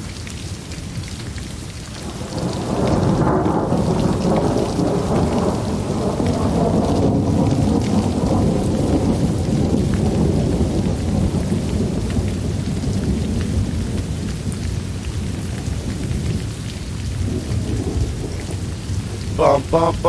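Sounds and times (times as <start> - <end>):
steady rain: 0.0 - 20.0
rolling thunder rumble: 2.0 - 20.0.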